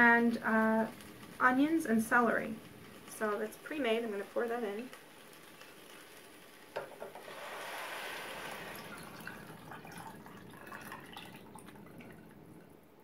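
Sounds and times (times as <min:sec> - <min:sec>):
broth pouring into pot: 0:00.0 - 0:13.0.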